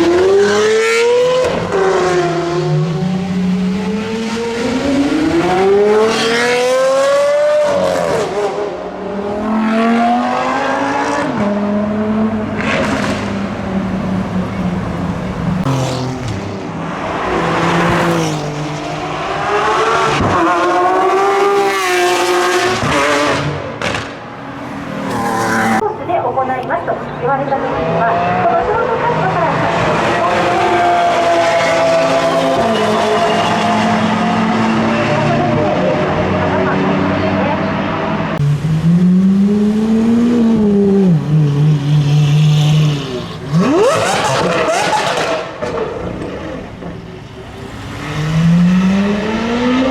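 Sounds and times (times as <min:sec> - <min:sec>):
sports car engine revving: 0:00.0 - 0:46.8, 0:47.4 - 0:49.9.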